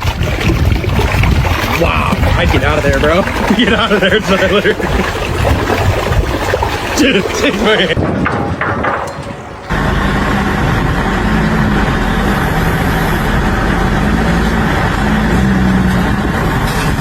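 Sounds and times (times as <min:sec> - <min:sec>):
heavy engine humming: 0:00.0 - 0:17.0.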